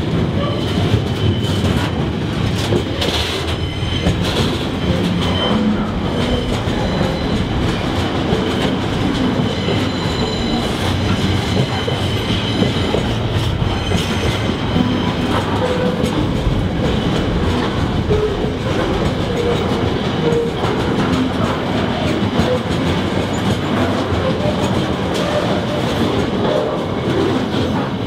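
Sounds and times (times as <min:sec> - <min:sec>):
train wheels rumbling on rail: 0:00.0 - 0:28.0
clicking over rail joints: 0:00.3 - 0:28.0.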